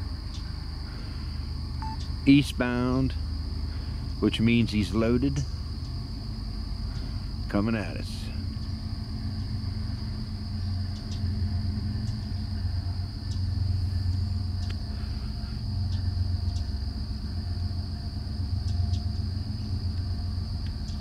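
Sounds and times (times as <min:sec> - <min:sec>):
diesel locomotives rumbling: 0:00.0 - 0:21.0
high insect drone: 0:00.0 - 0:21.0.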